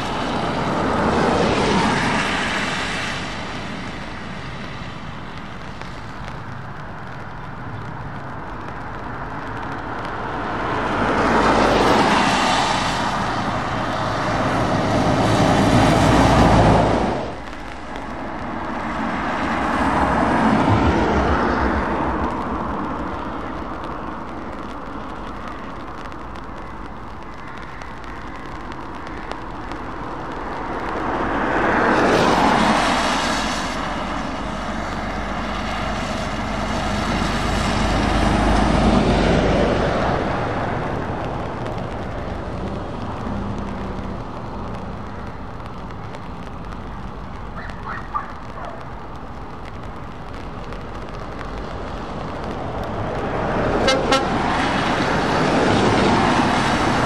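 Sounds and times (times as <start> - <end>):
diesel truck engines: 0.0 - 26.2, 26.9 - 57.0
tyres hissing on wet road: 0.0 - 57.0.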